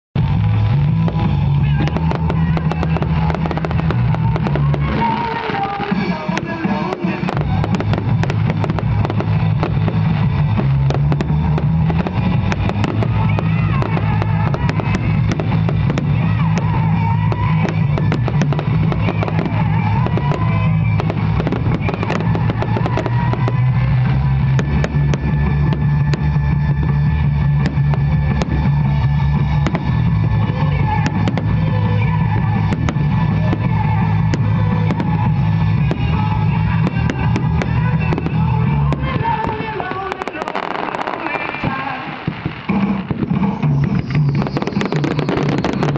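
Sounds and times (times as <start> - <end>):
fireworks bursting: 0.2 - 45.9
loud music: 0.2 - 45.9.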